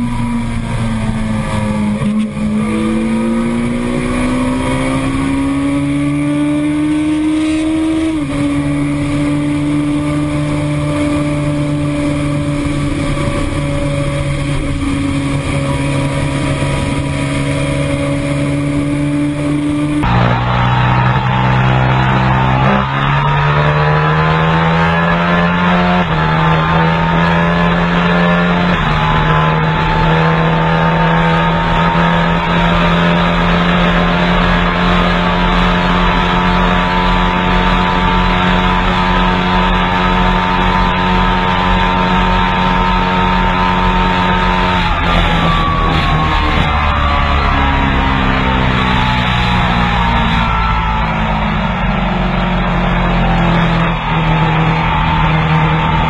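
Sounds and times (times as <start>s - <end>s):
sport bike engine at full throttle: 0.0s - 56.0s.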